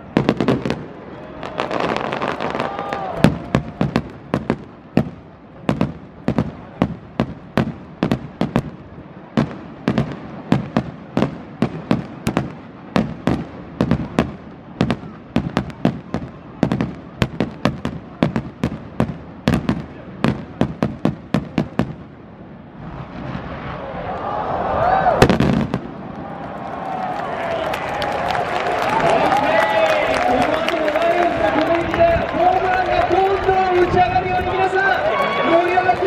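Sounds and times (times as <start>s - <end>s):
fireworks bangs: 0.0s - 36.0s.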